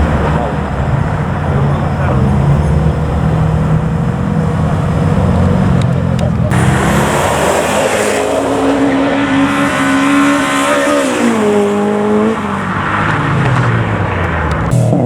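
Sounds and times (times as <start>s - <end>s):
car engine driving away: 0.0s - 15.0s
rough rushing noise: 0.0s - 15.0s.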